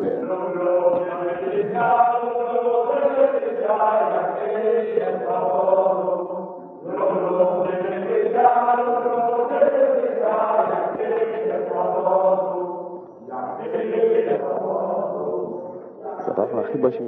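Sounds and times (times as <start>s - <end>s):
group of people singing: 0.0s - 17.0s.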